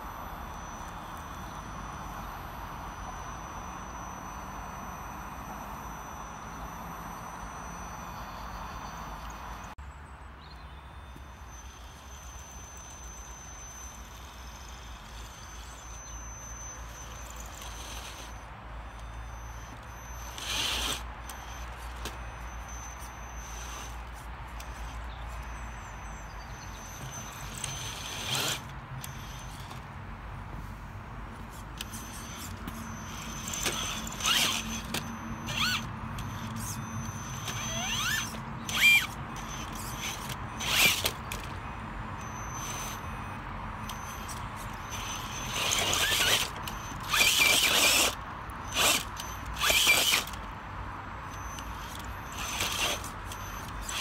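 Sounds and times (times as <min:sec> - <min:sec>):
toy truck motor whining: 0:00.0 - 0:09.8, 0:10.4 - 0:54.0.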